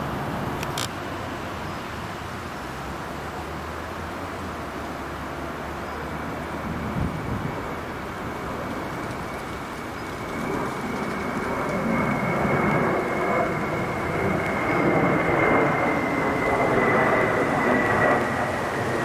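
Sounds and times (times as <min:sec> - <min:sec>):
high fan whine: 0:00.0 - 0:19.0
jet engine rumble: 0:00.0 - 0:19.0.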